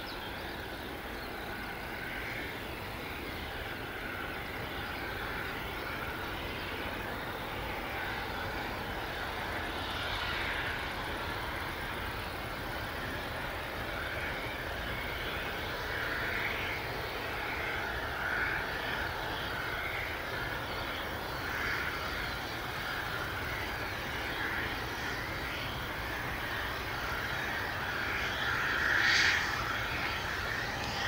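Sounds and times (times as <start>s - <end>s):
jet engines taxiing: 0.0s - 31.0s.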